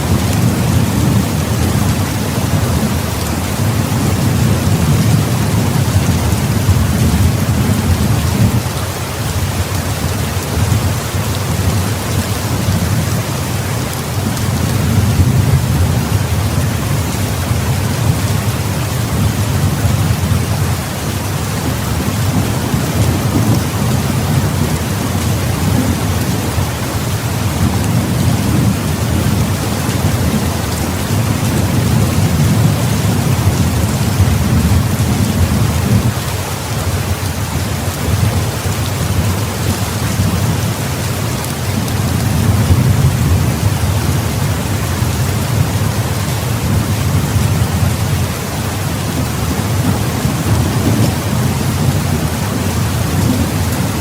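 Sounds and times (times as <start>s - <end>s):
low rumble of thunder: 0.0s - 36.3s, 37.3s - 54.0s
heavy rain: 0.0s - 54.0s.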